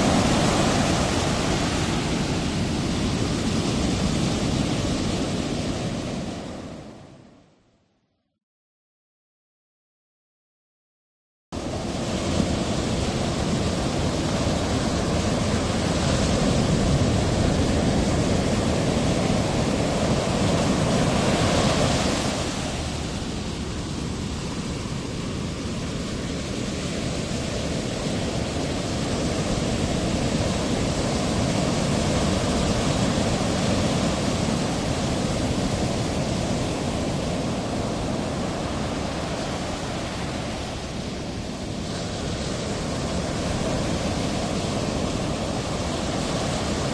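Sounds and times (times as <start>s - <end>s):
ocean surf breaking: 0.0s - 7.2s, 11.6s - 46.9s.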